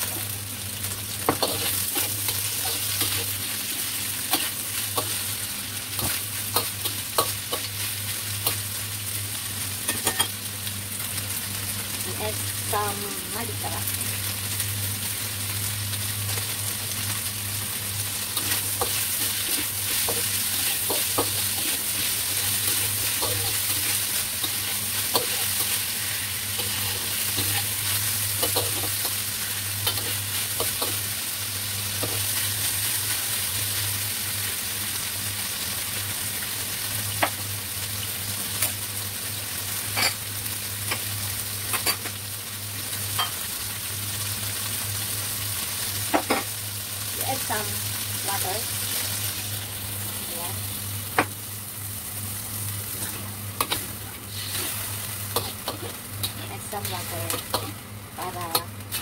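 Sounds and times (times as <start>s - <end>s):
food sizzling in a wok: 0.0s - 59.0s.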